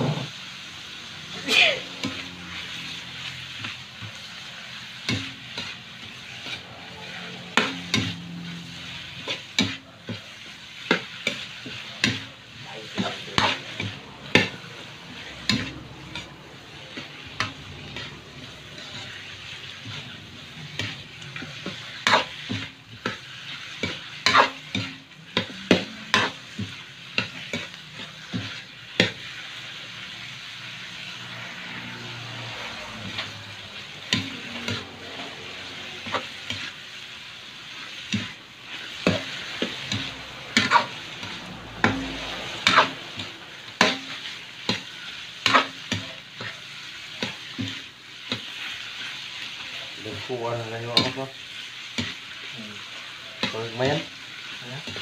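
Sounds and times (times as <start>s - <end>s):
spatula scraping a pan: 0.0s - 0.4s, 1.4s - 55.0s
chicken sizzling in a wok: 0.0s - 55.0s.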